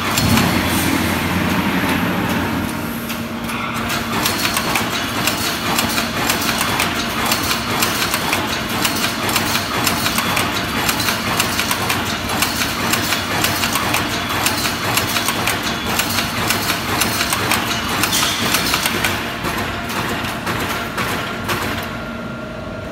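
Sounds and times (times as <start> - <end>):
welding machine clattering: 0.0 - 22.0.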